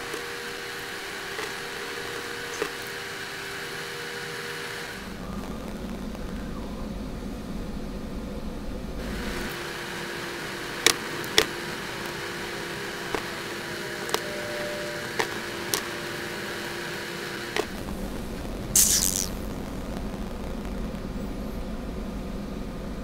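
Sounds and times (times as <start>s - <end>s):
static hiss and hum: 0.0s - 23.0s.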